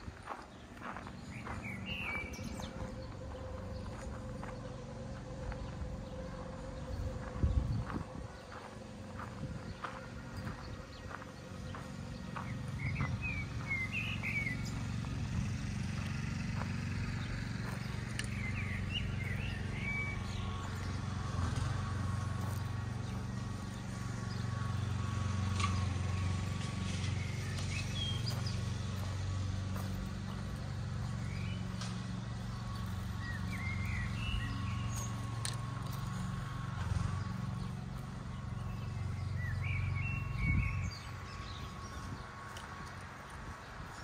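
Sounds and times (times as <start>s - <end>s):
footsteps on grass: 0.0s - 44.0s
low outdoor rumble: 0.0s - 44.0s
small birds chirping: 0.0s - 44.0s.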